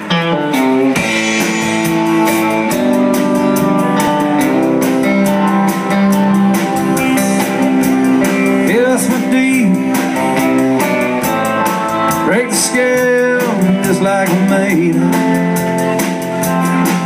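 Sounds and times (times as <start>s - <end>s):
bent sliding guitar notes: 0.0s - 17.0s
country band playing: 0.0s - 17.0s.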